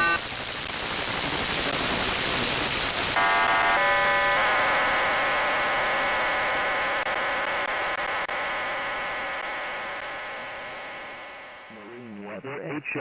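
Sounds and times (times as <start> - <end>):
multi-tone data burst: 0.0 - 13.0
shortwave static hiss: 0.0 - 13.0.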